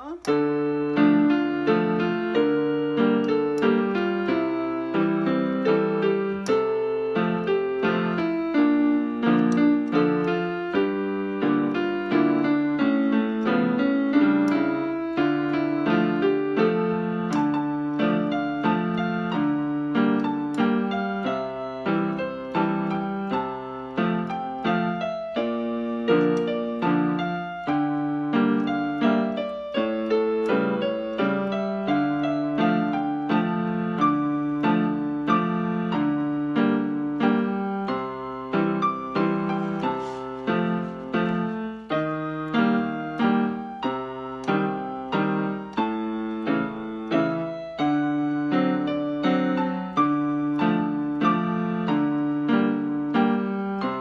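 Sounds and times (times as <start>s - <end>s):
fingernails clicking on keys: 0.0s - 54.0s
keyboard playing waltz: 0.0s - 54.0s.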